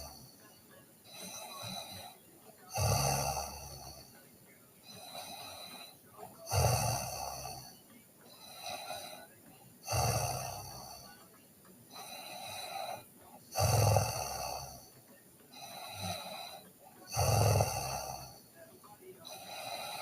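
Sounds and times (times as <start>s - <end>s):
girl snoring: 0.0s - 4.1s, 4.8s - 11.2s, 11.9s - 18.5s, 19.2s - 20.0s
soft breaths: 0.0s - 20.0s.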